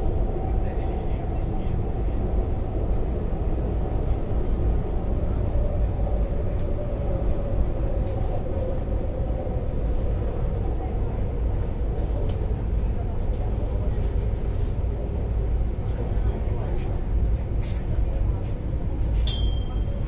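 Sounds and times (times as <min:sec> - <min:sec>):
faint train whine: 0:00.0 - 0:20.0
train wheel and rail rumble: 0:00.0 - 0:20.0.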